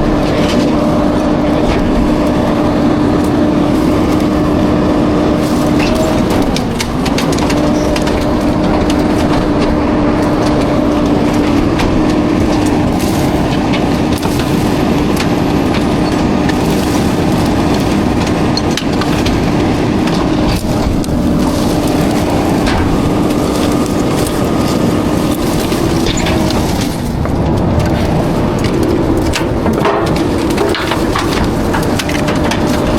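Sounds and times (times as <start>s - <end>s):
engine rumble: 0.0s - 32.9s
garbage truck mechanical whine: 0.0s - 32.9s
metal clanks and knocks: 0.0s - 32.9s.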